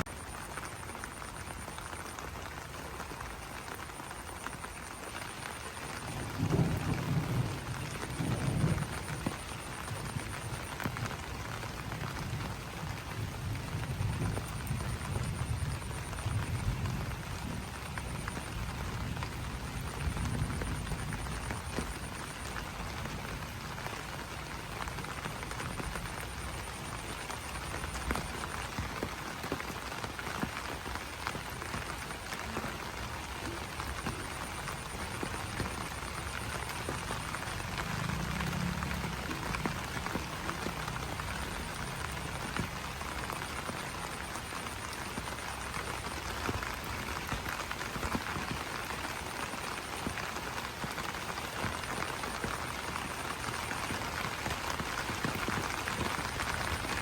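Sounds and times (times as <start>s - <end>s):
rain pattering on leaves: 0.0s - 57.0s
frogs croaking: 0.1s - 57.0s.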